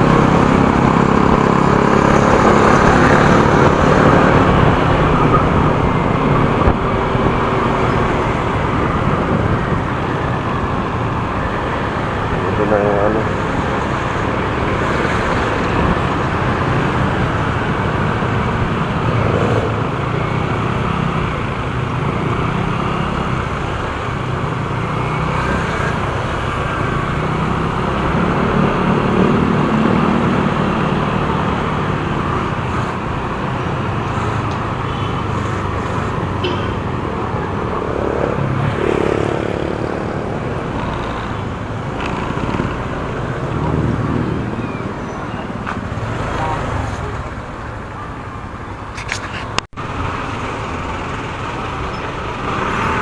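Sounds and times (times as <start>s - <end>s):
road and traffic noise: 0.0s - 53.0s.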